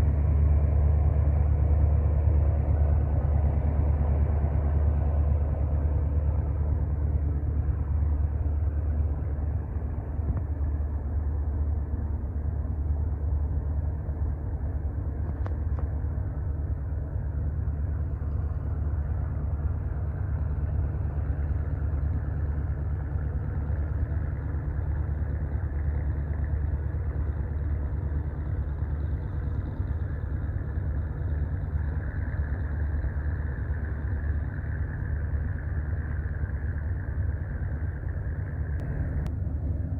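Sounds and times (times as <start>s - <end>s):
ship engine humming: 0.0s - 39.9s.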